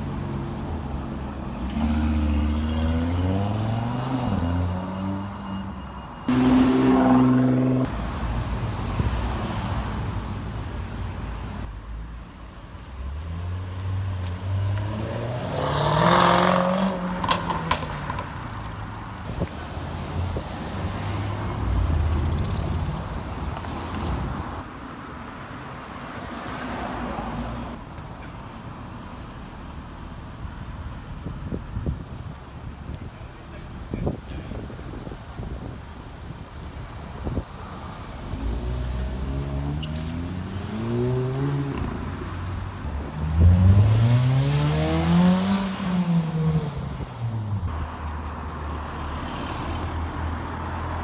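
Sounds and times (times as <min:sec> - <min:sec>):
car engines passing and revving: 0:00.0 - 0:51.0.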